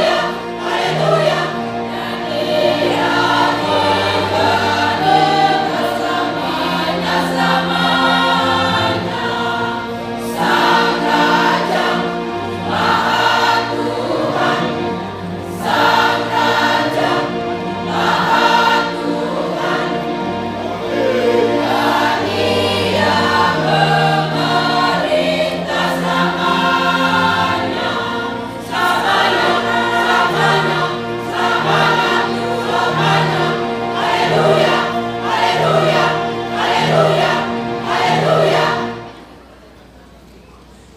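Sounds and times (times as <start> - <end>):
choir singing in several parts: 0.0 - 39.4.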